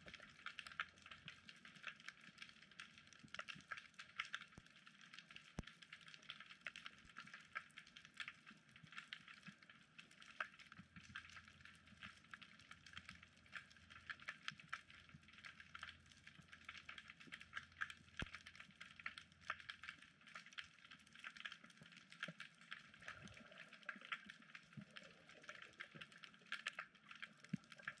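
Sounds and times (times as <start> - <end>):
underwater crackling clicks: 0.0 - 28.0.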